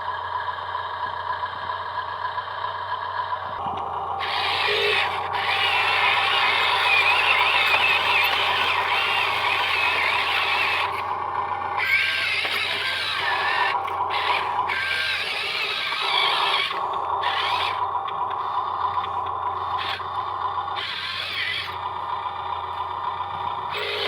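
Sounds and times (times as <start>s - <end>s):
small electric motors whining: 3.5s - 24.0s.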